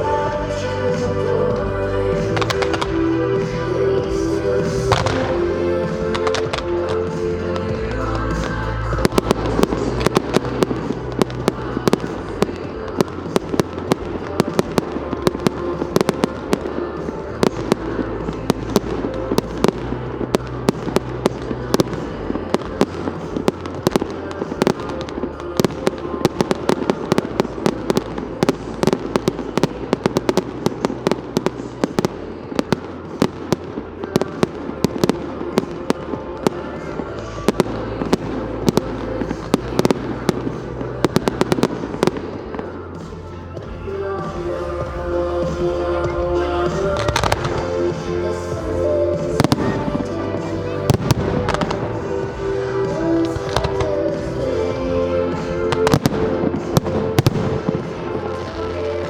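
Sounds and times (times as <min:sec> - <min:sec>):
fireworks bangs and cracks: 0:00.0 - 0:59.0
music playing: 0:00.0 - 0:59.0.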